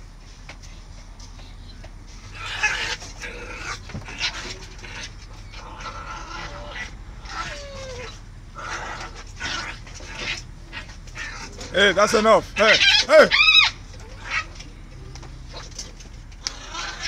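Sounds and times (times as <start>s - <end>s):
puppy whine: 1.4s - 11.8s, 12.6s - 17.0s
puppies growling and yapping: 1.6s - 17.0s.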